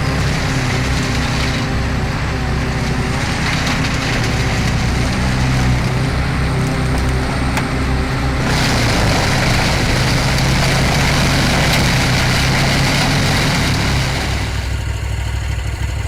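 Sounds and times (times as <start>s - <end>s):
loud dense grinding: 0.0s - 15.6s
heavy machine engine running: 0.0s - 16.0s.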